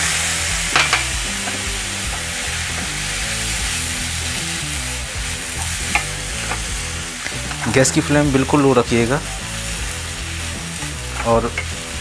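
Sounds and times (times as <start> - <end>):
instrumental music: 0.0 - 12.0
milk sizzling in a pan: 0.0 - 12.0.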